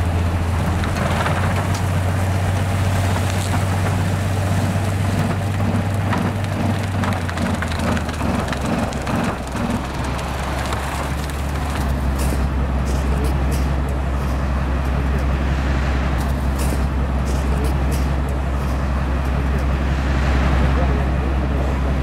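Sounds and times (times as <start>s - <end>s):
snowplow rotor drone: 0.0s - 22.0s.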